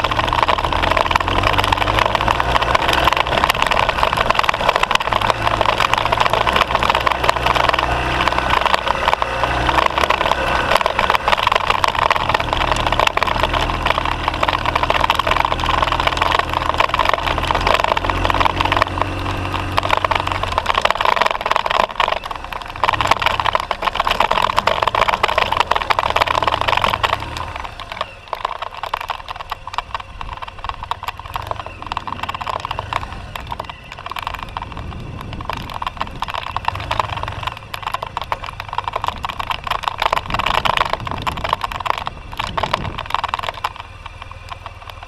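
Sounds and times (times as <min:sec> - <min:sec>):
gravel noise: 0:00.0 - 0:45.0
motorcycle engine climbing: 0:00.0 - 0:45.0.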